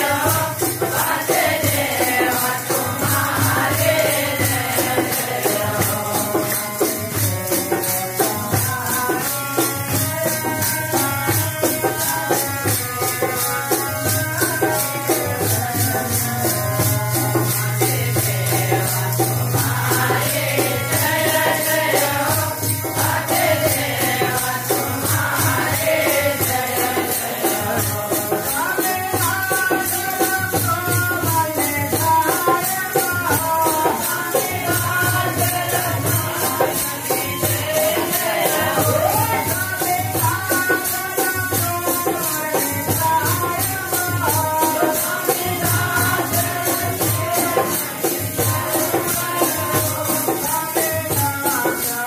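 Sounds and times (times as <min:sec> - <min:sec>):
hand cymbals jingling: 0:00.0 - 0:52.0
men singing devotional song: 0:00.0 - 0:52.0.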